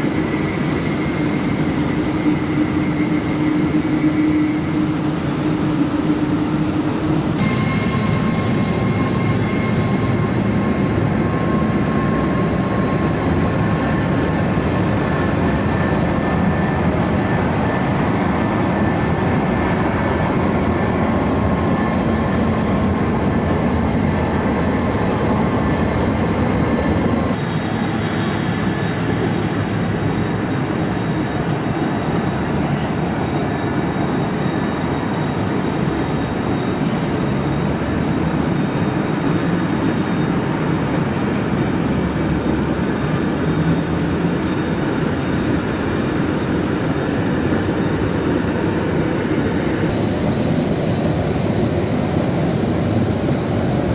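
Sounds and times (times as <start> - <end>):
jet engines running: 0.0 - 53.9.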